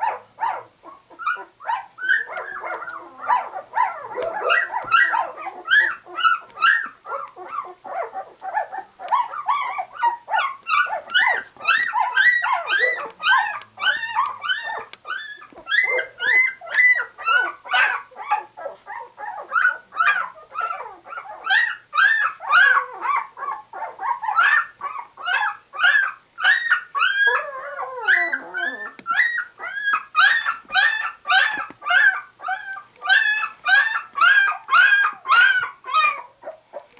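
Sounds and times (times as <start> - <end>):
puppies crying: 0.0 - 36.9.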